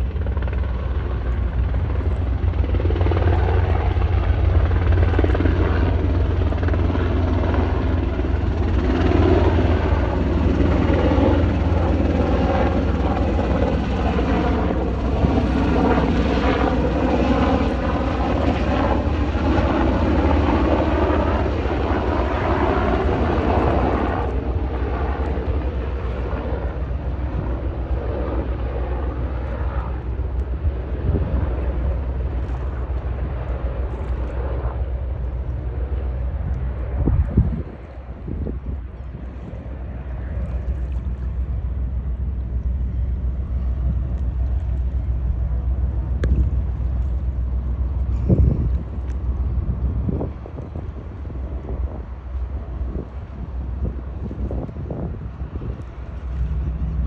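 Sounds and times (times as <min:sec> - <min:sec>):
aircraft engine drone overhead: 0:00.0 - 0:57.0.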